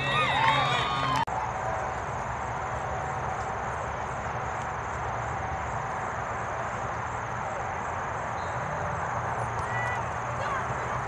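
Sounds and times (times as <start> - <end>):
hiss-like outdoor haze: 0.0 - 11.0.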